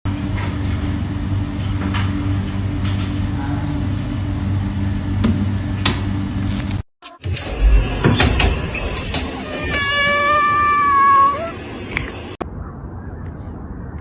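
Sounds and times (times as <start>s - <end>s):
low mechanical hum: 0.1s - 12.4s.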